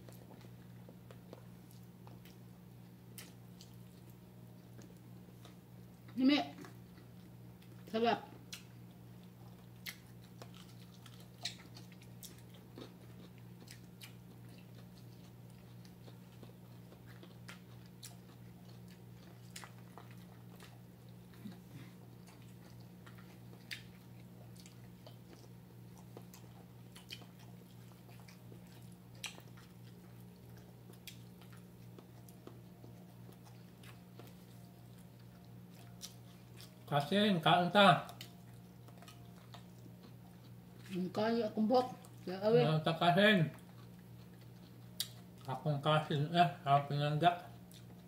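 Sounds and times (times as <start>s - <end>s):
chewing and mouth smacks: 0.0s - 36.9s, 38.0s - 41.1s, 43.5s - 45.6s, 47.5s - 48.0s
steady low hum: 0.0s - 48.0s.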